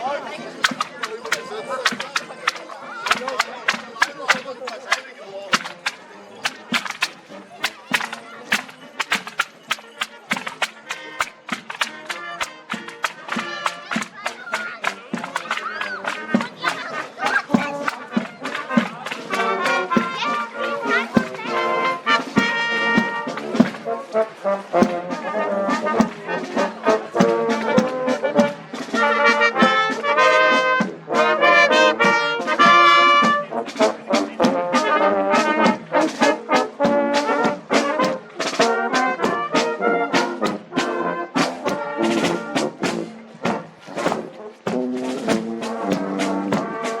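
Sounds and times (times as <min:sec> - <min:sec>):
brass band playing a march: 0:00.0 - 0:47.0
steady drum beat: 0:00.1 - 0:47.0.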